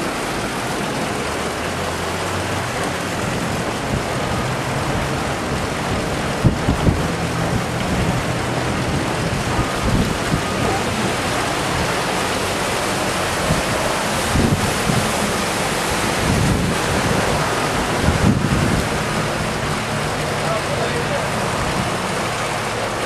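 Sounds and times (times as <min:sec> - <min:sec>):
heavy rain and floodwater rushing: 0:00.0 - 0:23.0
wind buffeting microphone: 0:00.0 - 0:23.0.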